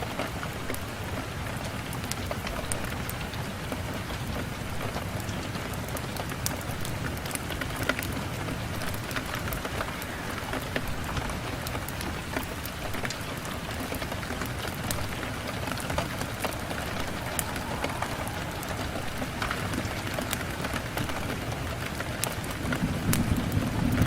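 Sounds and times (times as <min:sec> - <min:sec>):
rain pattering on a window: 0:00.0 - 0:24.0.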